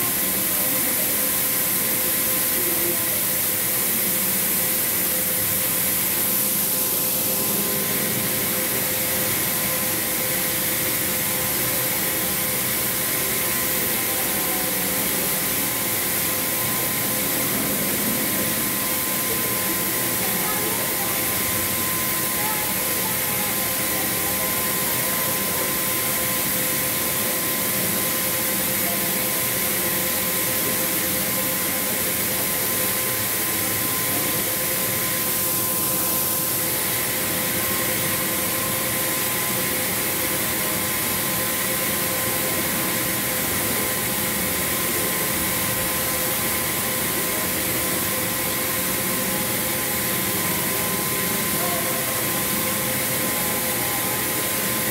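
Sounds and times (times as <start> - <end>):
mechanical hum and hiss: 0.0 - 54.9.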